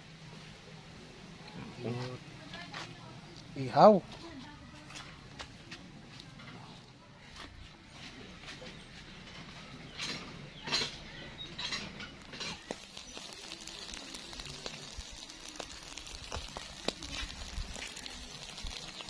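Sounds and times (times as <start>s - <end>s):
charcoal fire crackling and sizzling: 0.0s - 19.0s.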